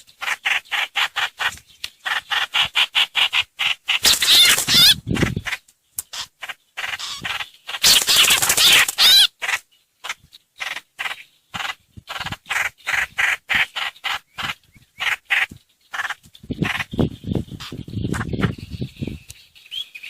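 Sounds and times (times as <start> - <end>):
songbird harsh chattering: 0.0 - 20.0.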